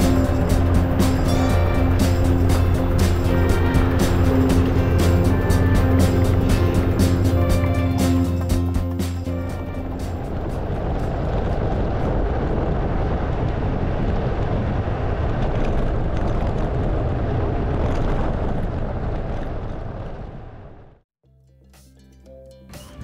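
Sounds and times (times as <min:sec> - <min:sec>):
wind rushing: 0:00.0 - 0:21.0.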